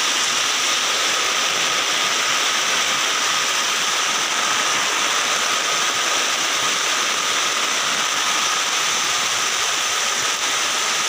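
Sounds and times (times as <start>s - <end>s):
heavy rain on concrete: 0.0s - 11.0s.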